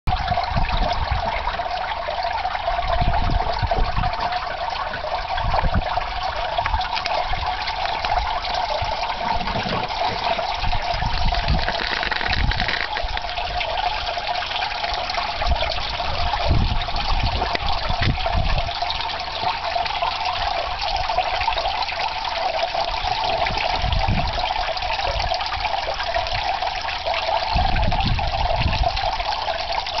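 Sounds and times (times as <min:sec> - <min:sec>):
meltwater trickling and dripping: 0:00.1 - 0:30.0.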